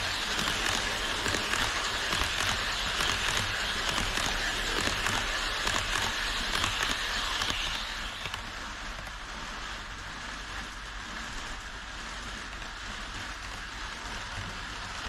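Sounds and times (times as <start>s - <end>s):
model train wheels on rails: 0.0s - 15.0s.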